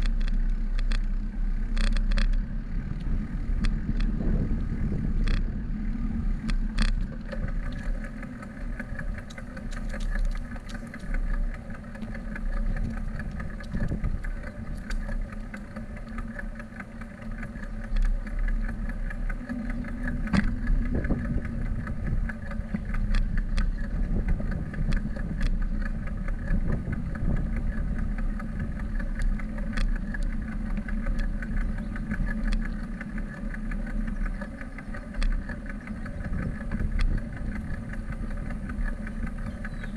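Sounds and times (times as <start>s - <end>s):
bicycle tyres rumbling on pavement: 0.0s - 39.9s
faint steady hum: 0.0s - 39.9s.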